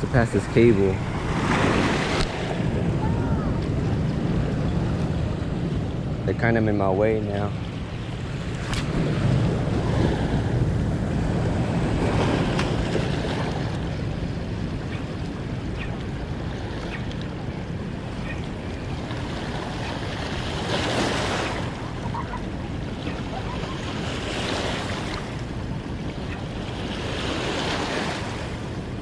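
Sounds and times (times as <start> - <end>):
boat engine humming: 0.0 - 29.0
wind on microphone: 0.0 - 29.0.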